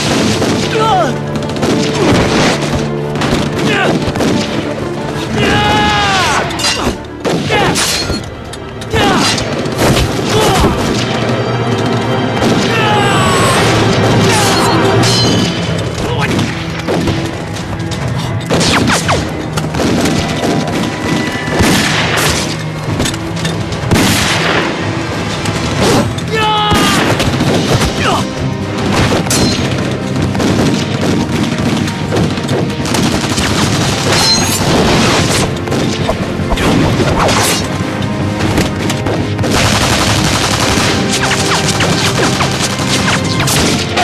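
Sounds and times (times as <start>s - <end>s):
dramatic background music: 0.0s - 44.0s.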